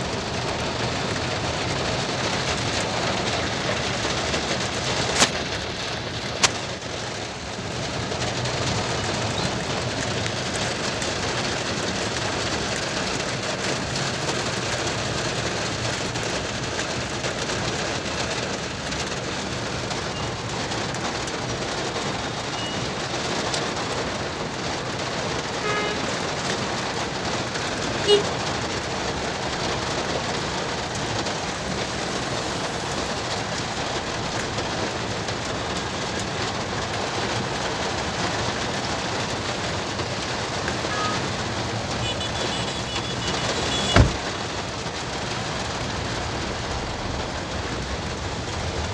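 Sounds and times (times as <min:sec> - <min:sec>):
rain falling on a car: 0:00.0 - 0:48.9.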